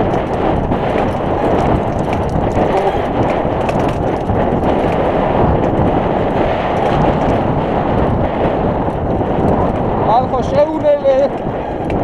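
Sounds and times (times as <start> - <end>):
tyres rolling over rocky trail: 0.0 - 12.0
wind rushing on microphone: 0.0 - 12.0.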